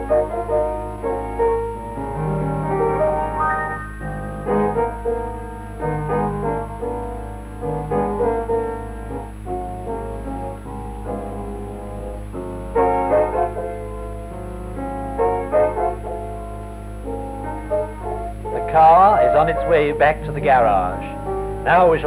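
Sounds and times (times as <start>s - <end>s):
piano music: 0.0s - 22.0s
steady low hum: 0.0s - 22.0s.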